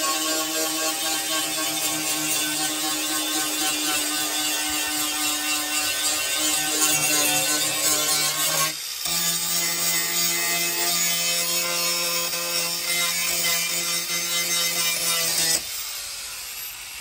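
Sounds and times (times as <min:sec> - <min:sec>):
angle grinder whining: 0:00.0 - 0:17.0.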